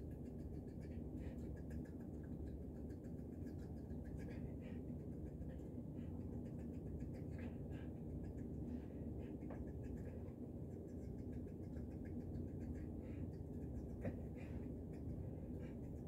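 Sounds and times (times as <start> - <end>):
cat paws scratching and pattering: 0.0 - 16.0
steady low hum: 0.0 - 16.0.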